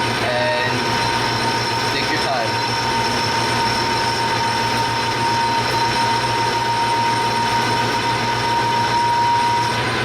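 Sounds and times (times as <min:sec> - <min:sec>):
metal lathe whining: 0:00.0 - 0:10.0.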